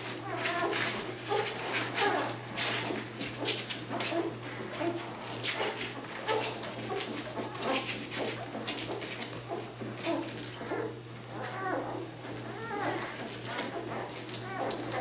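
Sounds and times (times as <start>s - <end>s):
puppies suckling: 0.0s - 15.0s
puppy squeaks and whimpers: 0.1s - 15.0s.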